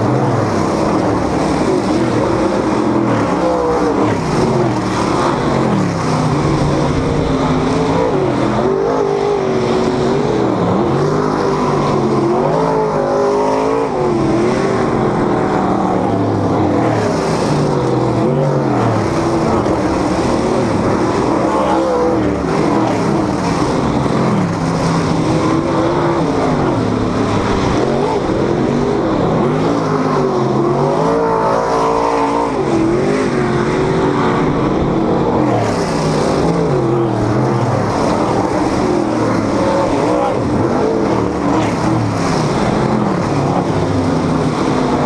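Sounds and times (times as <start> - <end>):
race car engines passing by: 0.0 - 45.0.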